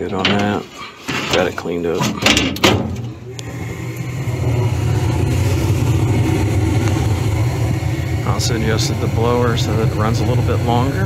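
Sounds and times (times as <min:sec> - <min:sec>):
gas furnace humming: 0:00.0 - 0:11.0.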